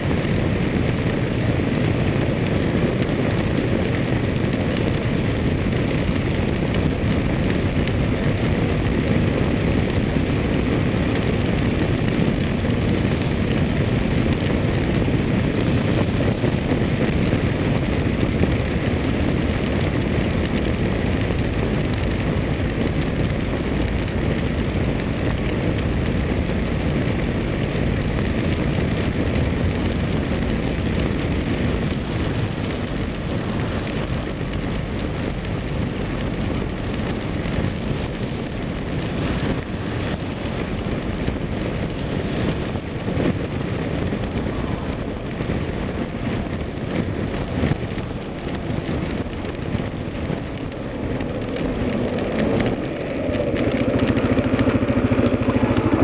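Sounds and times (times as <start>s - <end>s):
motorcycle engine: 0.0s - 56.0s
tyres on wet pavement: 0.0s - 56.0s
wind noise: 0.0s - 56.0s.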